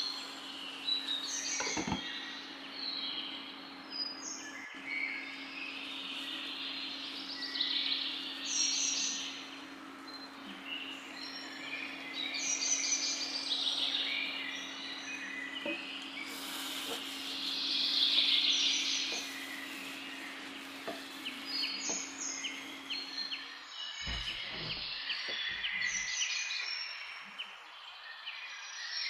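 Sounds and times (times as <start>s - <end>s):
steady low hum: 0.0s - 27.6s
birds chirping: 0.0s - 29.0s.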